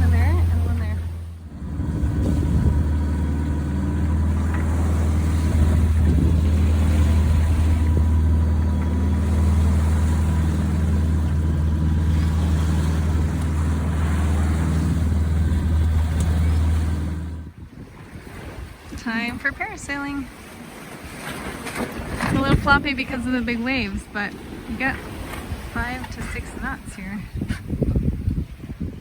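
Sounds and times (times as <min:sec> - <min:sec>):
boat engine humming: 0:00.0 - 0:28.7.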